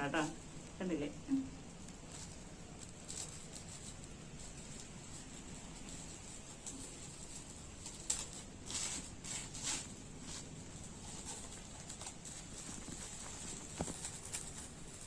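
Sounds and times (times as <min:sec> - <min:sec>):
packaging crinkling: 0:01.7 - 0:15.0.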